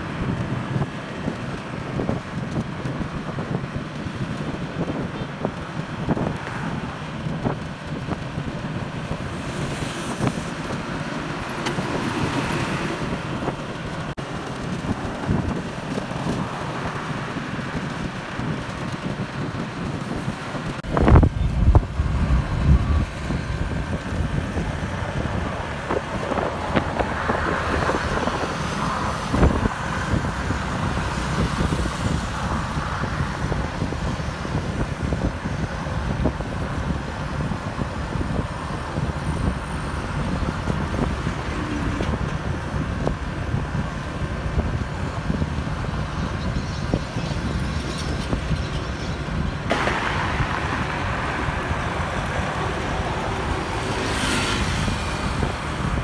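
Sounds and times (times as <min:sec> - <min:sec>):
engine and tyres rumbling on road: 0:00.0 - 0:56.0
passing cars and motorbikes: 0:00.0 - 0:56.0.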